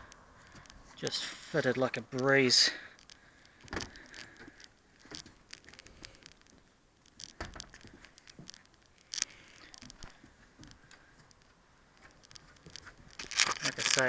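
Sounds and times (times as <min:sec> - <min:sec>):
light taps clicks and rustles: 0:00.0 - 0:14.0.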